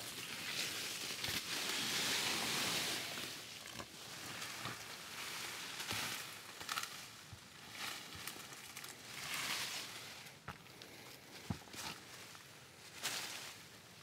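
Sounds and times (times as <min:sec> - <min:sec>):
leafy branches rustling: 0:00.0 - 0:14.0.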